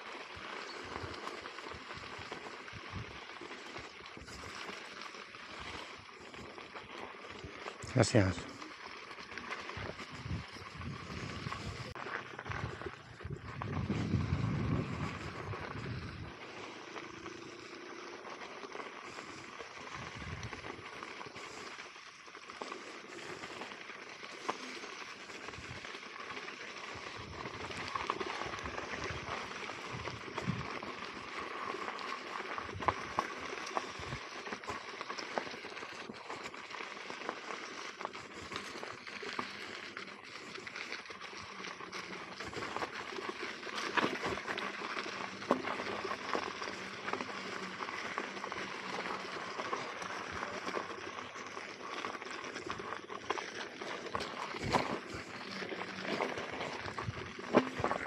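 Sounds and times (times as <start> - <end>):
tyre rolling over gravel: 0.0 - 58.0.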